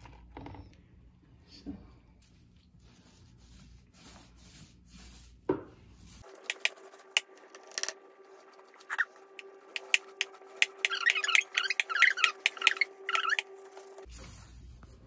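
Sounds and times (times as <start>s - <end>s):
paint roller rubbing strokes: 2.3s - 15.0s.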